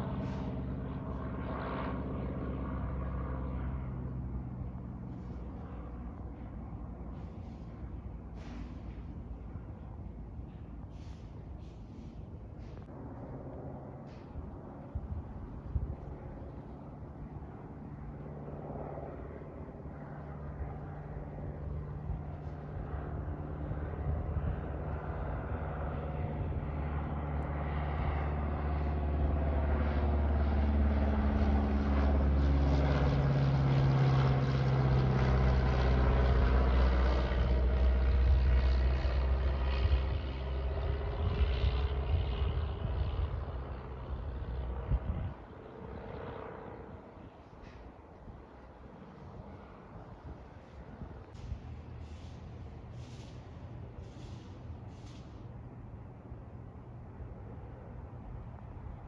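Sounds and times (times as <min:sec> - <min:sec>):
propeller plane flying overhead: 0:00.0 - 0:59.0.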